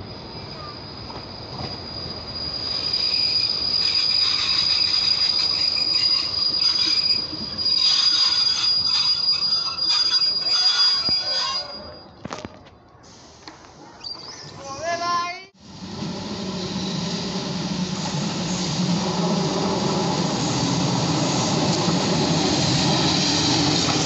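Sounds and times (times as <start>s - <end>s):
train brake squeal: 0.0s - 12.4s, 16.0s - 24.0s
train running noise and rattle: 0.0s - 12.6s, 15.7s - 24.0s.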